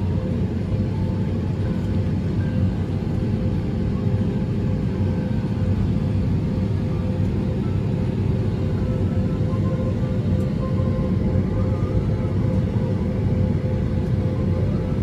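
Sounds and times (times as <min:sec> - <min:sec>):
jet engines rumbling: 0:00.0 - 0:15.0
steady cabin hum: 0:00.0 - 0:15.0.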